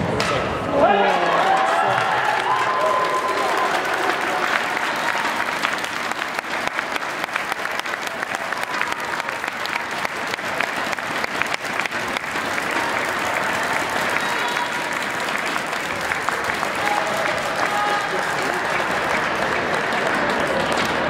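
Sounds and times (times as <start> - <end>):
spectators applauding: 0.8 - 21.0.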